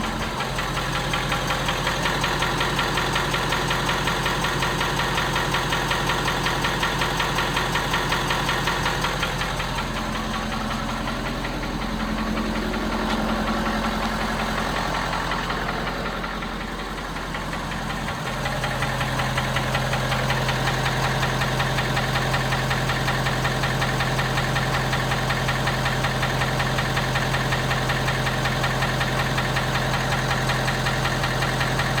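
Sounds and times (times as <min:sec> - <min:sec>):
diesel engine idling with knock: 0:00.0 - 0:32.0.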